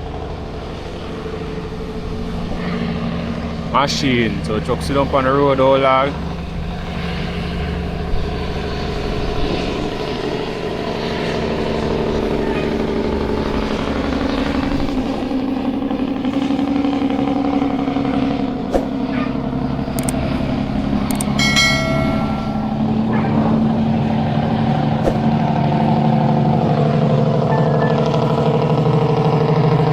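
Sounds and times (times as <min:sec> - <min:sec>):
truck diesel engine running: 0:00.0 - 0:29.9.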